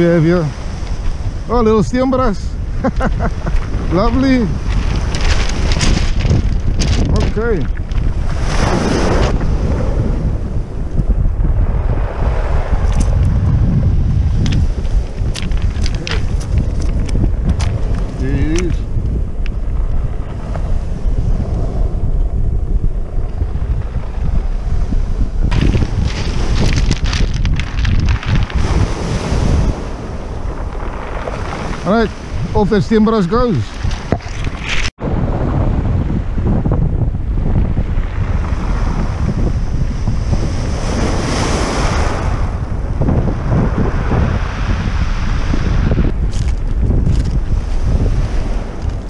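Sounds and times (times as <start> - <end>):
wave washing on pebble beach: 0.0 - 21.9, 23.0 - 34.9, 37.6 - 49.0
surf on shore: 0.0 - 49.0
wind buffeting microphone: 0.0 - 49.0.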